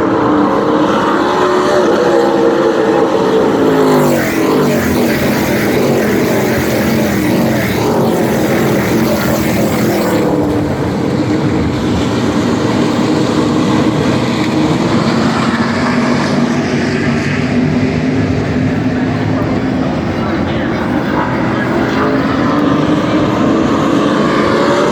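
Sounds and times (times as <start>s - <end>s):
race truck engines passing: 0.0s - 24.9s.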